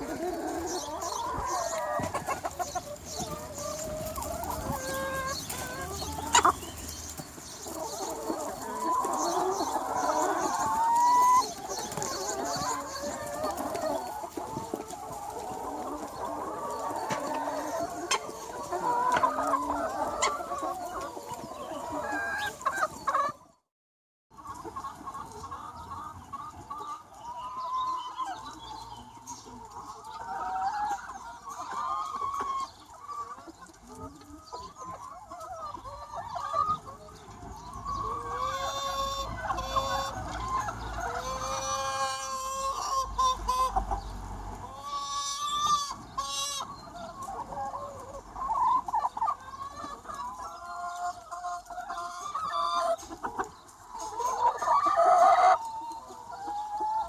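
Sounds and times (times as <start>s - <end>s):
hens clucking: 0.0s - 23.6s, 24.3s - 57.0s.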